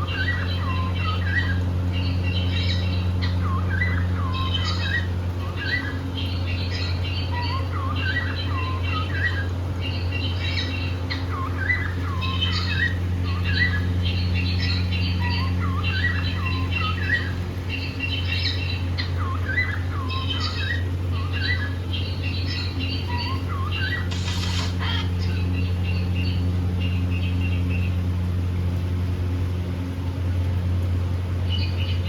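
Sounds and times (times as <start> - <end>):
cockatiels chirping: 0.0 - 26.0
steady low hum: 0.0 - 32.0.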